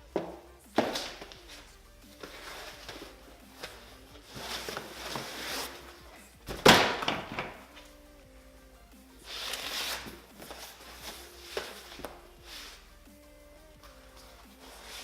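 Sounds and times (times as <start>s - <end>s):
rustling and handling noises: 0.0s - 8.0s, 9.2s - 15.0s
faint background music: 0.0s - 15.0s.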